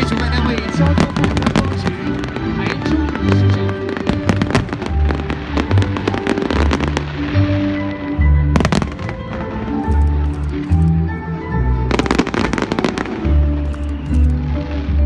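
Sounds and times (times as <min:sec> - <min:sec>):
fireworks crackling and popping: 0:00.0 - 0:10.9, 0:11.9 - 0:15.0
show music over loudspeakers: 0:00.0 - 0:15.0.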